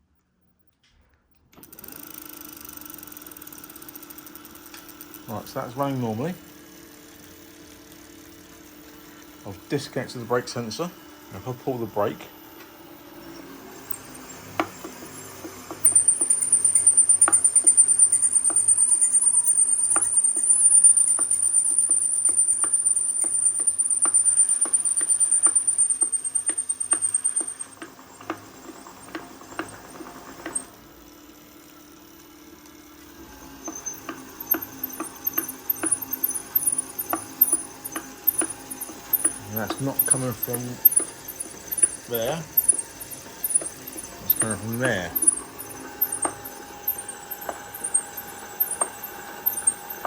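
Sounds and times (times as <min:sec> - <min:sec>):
electric motor whine: 0:01.6 - 0:50.0.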